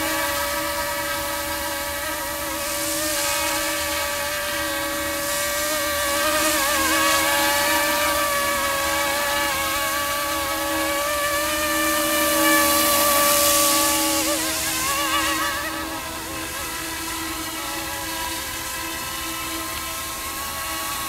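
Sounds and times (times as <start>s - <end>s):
high rushing hiss: 0.0s - 21.0s
rc helicopter motors whining: 0.0s - 21.0s.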